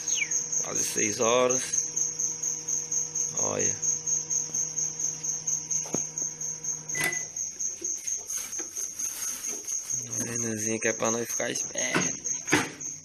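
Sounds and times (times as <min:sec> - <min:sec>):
cricket chirping: 0:00.0 - 0:13.0
low electrical hum: 0:00.0 - 0:13.0.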